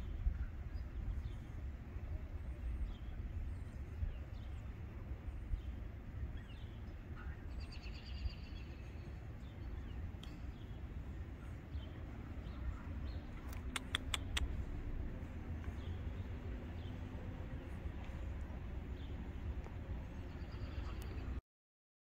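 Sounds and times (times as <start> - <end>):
low outdoor rumble: 0.0 - 21.4.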